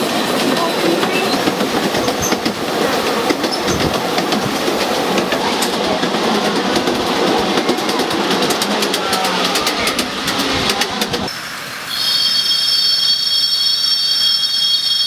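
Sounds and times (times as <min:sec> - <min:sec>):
miniature train rumbling: 0:00.0 - 0:15.0
wheels clicking on rails: 0:00.0 - 0:15.0.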